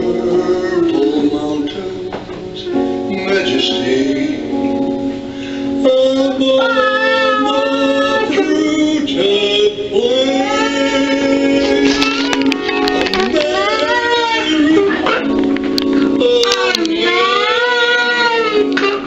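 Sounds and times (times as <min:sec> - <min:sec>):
person singing: 0:00.0 - 0:05.0, 0:05.6 - 0:19.0
guitar accompaniment: 0:00.0 - 0:19.0.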